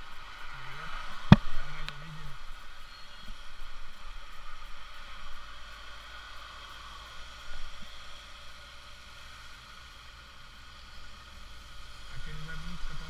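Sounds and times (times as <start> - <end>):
vehicle road noise: 0.0 - 13.0.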